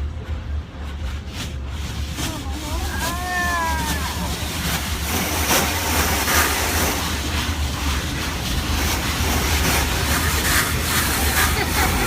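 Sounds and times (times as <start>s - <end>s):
car wash machinery beating: 0.0s - 12.0s
steady low rumble: 0.0s - 12.0s
water spray: 1.5s - 12.0s.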